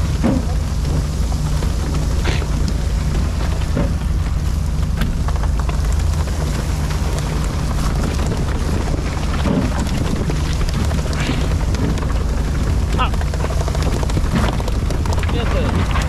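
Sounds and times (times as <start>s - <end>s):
boat engine running: 0.0s - 16.0s
splashes and knocks: 0.0s - 16.0s
spraying water and wind: 0.0s - 16.0s.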